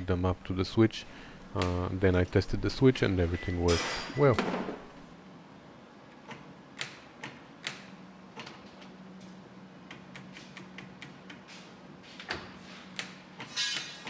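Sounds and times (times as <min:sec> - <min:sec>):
faint steady hum: 0:00.0 - 0:11.4.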